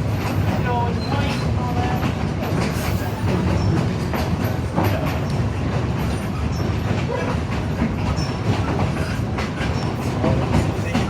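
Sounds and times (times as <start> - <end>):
train rumble: 0.0 - 11.0
train wheels clicking over rail joints: 0.0 - 11.0.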